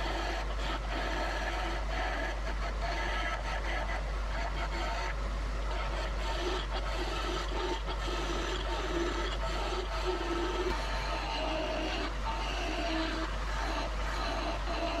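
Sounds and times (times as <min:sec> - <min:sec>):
lathe running hum: 0:00.0 - 0:15.0.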